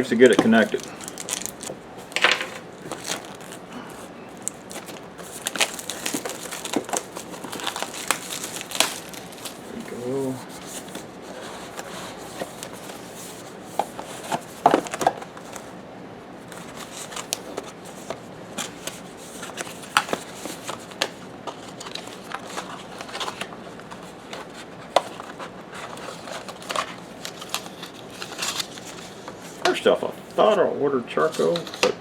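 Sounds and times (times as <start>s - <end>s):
cardboard packaging rustling: 0.0s - 15.8s, 16.4s - 30.6s, 31.2s - 31.9s.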